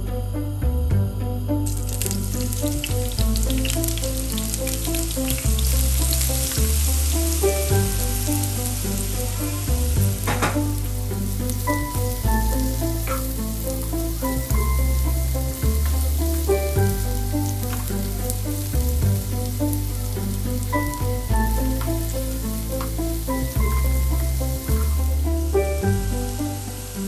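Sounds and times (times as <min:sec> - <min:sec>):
background music with bass: 0:00.0 - 0:27.0
food sizzling in hot oil: 0:01.6 - 0:27.0.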